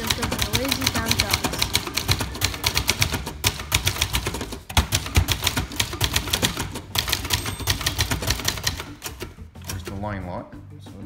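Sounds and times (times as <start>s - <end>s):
typewriter key clacks: 0.0s - 10.0s.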